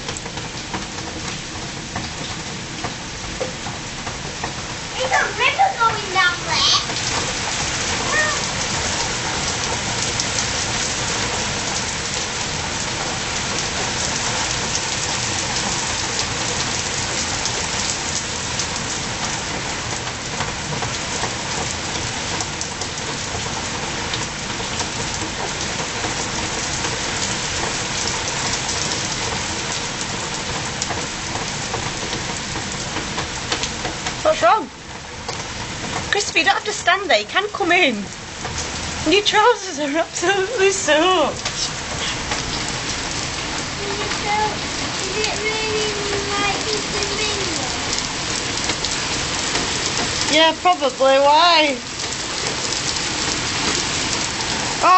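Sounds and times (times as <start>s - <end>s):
heavy rain on stone paving: 0.0s - 54.9s.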